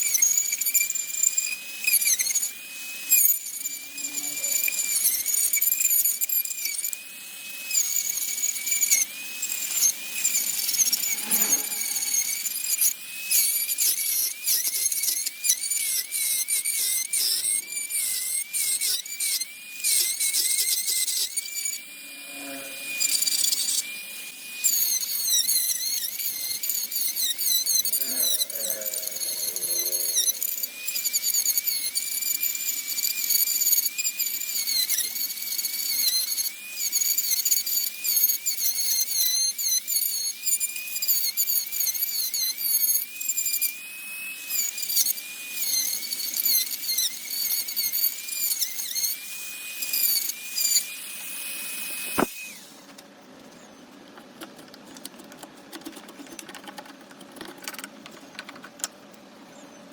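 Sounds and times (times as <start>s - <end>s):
rotary tool whining into wood: 0.0s - 55.8s.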